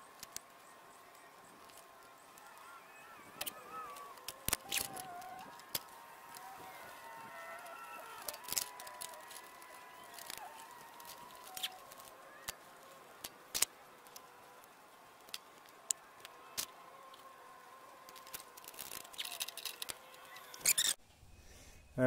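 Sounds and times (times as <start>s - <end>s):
rustling: 0.0s - 21.1s.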